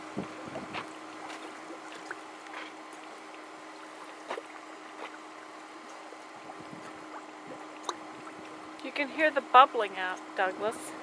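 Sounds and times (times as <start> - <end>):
mud bubbling and plopping: 0.0 - 8.9
faint hum: 0.0 - 11.0.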